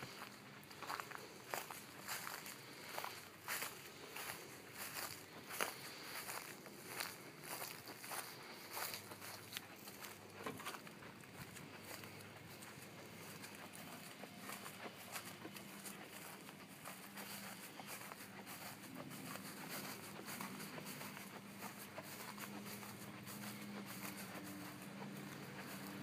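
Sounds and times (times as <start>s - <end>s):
footsteps on grass: 0.0s - 26.0s
faint low hum: 0.1s - 26.0s.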